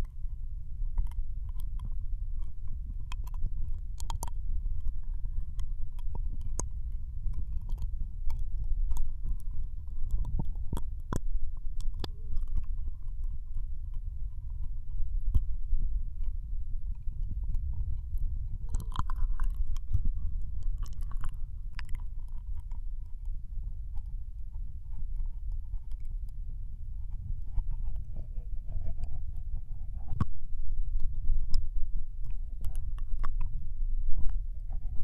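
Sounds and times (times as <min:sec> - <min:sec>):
low rumble: 0:00.0 - 0:35.0
wet tongue and lip clicks: 0:00.0 - 0:35.0.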